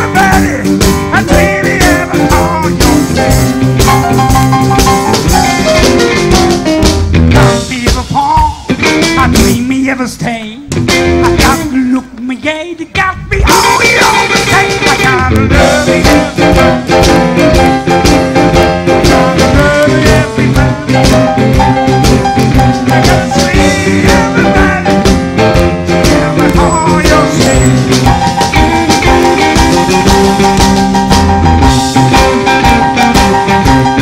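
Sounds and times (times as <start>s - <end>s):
live blues band playing: 0.0s - 34.0s.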